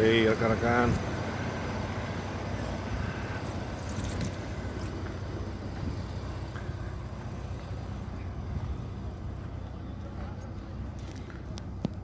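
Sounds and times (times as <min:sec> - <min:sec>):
low rumble of motor vehicles: 0:00.0 - 0:12.0.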